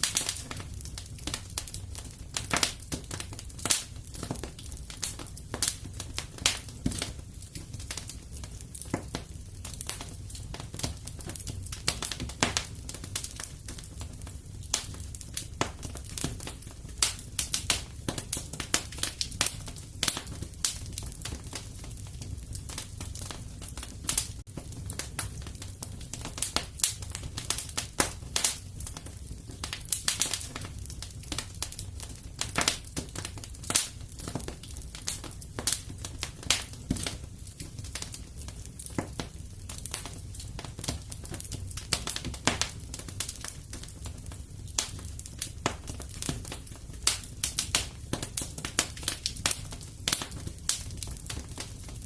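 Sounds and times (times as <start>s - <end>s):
fire crackling and popping: 0.0s - 52.0s
low rumble of flame: 0.0s - 52.0s.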